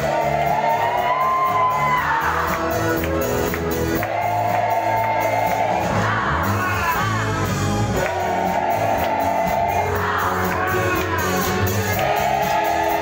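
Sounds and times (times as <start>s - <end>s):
congregation singing along: 0.0s - 13.0s
voices singing long notes: 0.0s - 13.0s
worship band playing: 0.0s - 13.0s.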